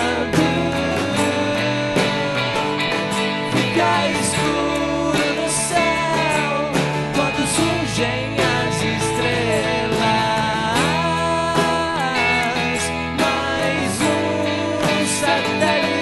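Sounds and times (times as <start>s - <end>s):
drum beat: 0.0s - 16.0s
strummed guitars: 0.0s - 16.0s
voices singing wordless line: 0.0s - 16.0s.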